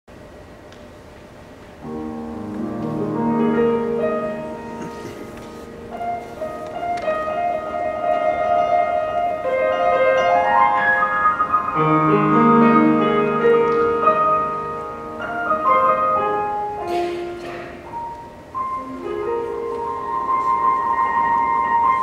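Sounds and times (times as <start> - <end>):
grand piano playing: 1.8 - 22.0.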